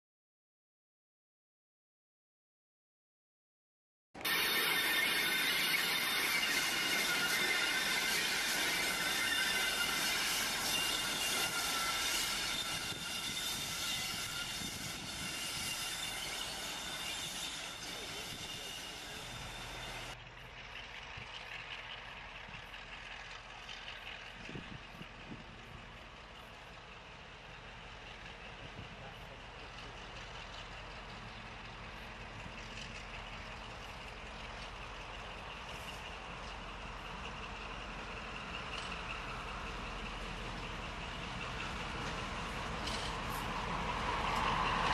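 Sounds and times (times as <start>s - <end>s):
diesel locomotive engine running: 4.2s - 44.9s.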